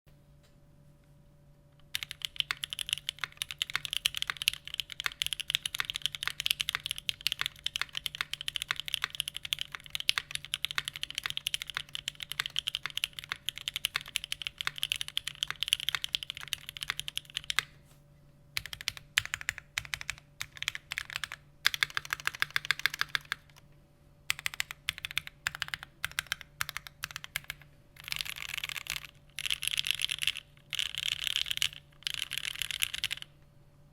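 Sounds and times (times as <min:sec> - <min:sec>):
mechanical keyboard typing: 0:01.8 - 0:17.7, 0:18.6 - 0:23.6, 0:24.3 - 0:33.3.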